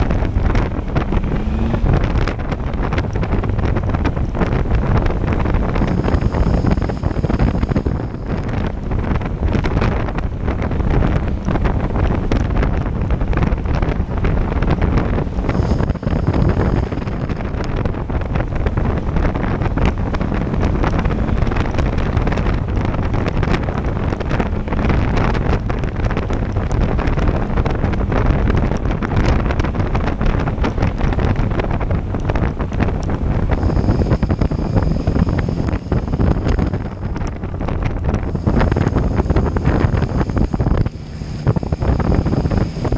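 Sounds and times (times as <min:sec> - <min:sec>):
motorcycle engine: 0:00.0 - 0:42.9
road noise: 0:00.0 - 0:42.9
wind buffeting microphone: 0:00.0 - 0:42.9.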